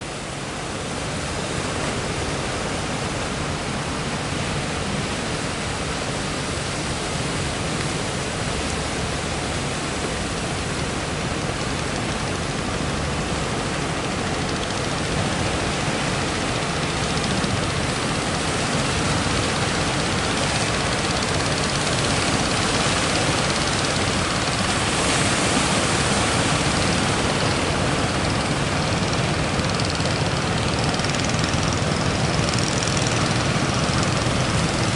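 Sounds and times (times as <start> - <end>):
heavy surf roaring: 0.0 - 34.9.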